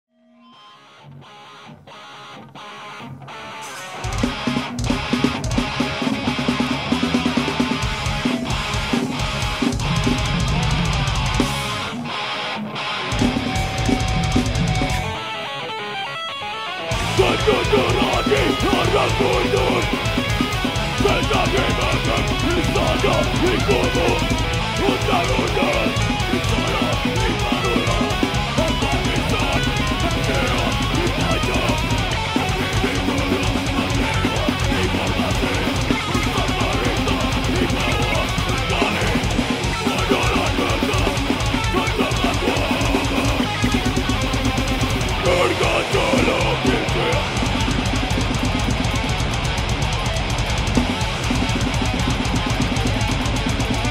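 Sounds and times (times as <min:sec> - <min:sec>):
distorted electric guitars: 0:00.1 - 0:53.9
fast drumming: 0:04.0 - 0:11.9, 0:13.1 - 0:15.2, 0:16.9 - 0:53.9.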